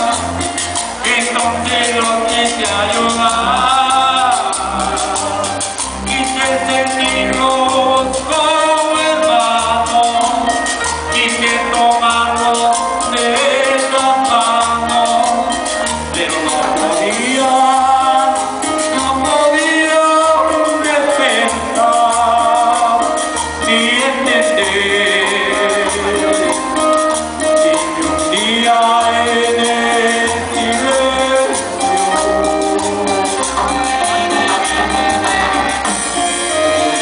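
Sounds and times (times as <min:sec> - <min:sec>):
cumbia band instrumental music: 0:00.0 - 0:37.0.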